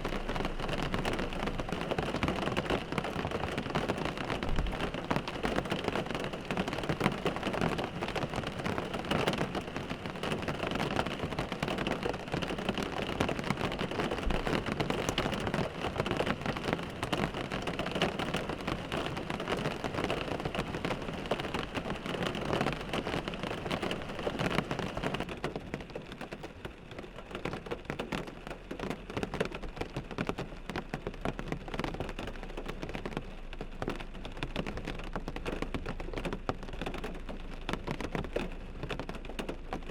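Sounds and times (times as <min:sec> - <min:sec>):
rain pattering on car windshield: 0:00.0 - 0:39.9.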